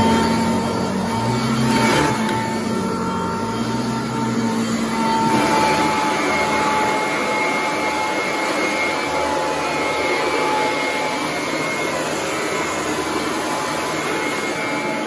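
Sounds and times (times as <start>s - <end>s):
vacuum cleaner running on tile: 0.0s - 15.0s.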